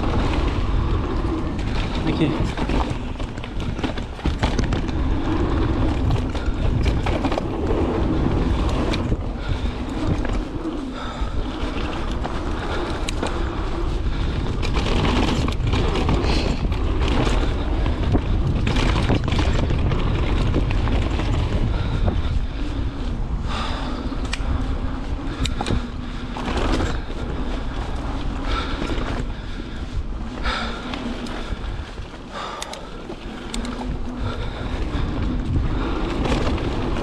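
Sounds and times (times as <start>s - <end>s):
mountain bike rattling and knocking: 0.0s - 37.0s
tyres rumbling on dirt trail: 0.0s - 37.0s
wind buffeting microphone: 0.0s - 37.0s.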